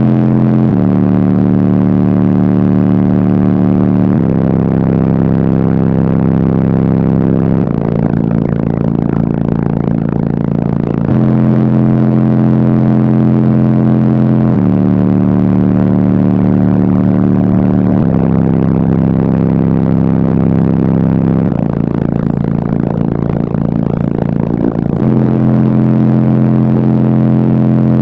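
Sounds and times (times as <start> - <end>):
bass-heavy music from car speakers: 0.0 - 28.0.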